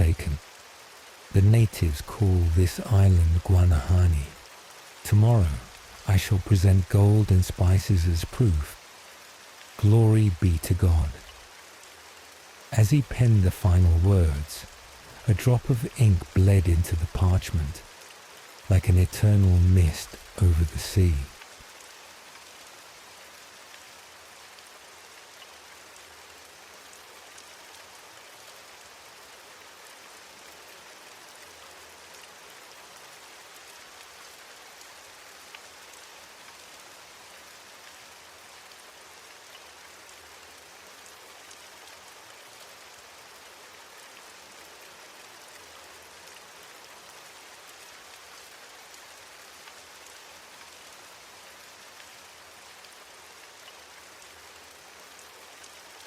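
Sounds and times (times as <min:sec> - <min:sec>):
raindrops ticking on a surface: 0:00.0 - 0:56.0
steady rain hiss: 0:00.0 - 0:56.0.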